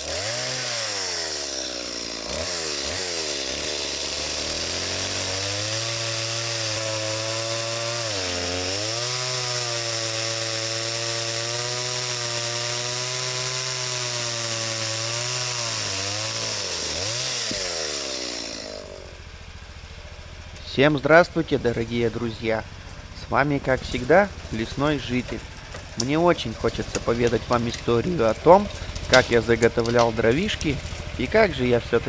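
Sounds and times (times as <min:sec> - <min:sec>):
chainsaw running at high revs: 0:00.0 - 0:32.0.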